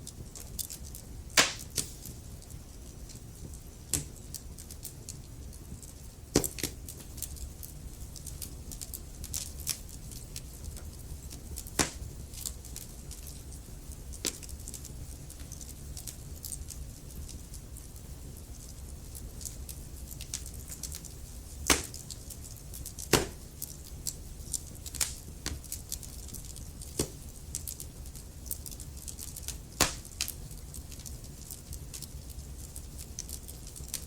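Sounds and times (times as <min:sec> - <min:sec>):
low rumble of flame: 0:00.0 - 0:34.0
wood crackling and popping: 0:00.0 - 0:34.0.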